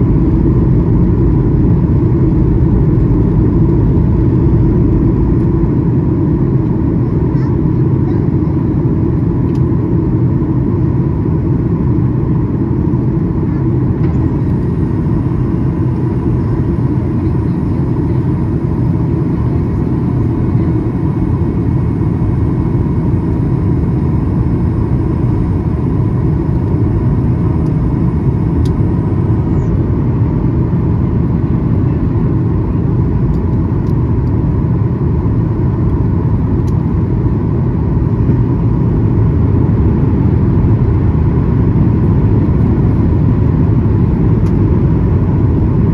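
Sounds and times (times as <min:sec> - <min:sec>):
airflow over fuselage: 0:00.0 - 0:45.9
jet engines rumbling: 0:00.0 - 0:45.9.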